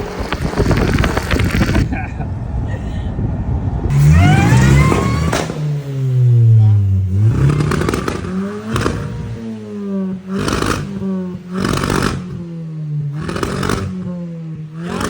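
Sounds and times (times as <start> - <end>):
engine running with rushing surges: 0.0 - 15.0.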